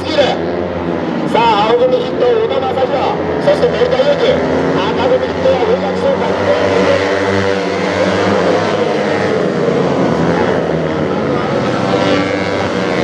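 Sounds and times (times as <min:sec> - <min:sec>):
two-stroke minibike engines buzzing: 0:00.0 - 0:13.0.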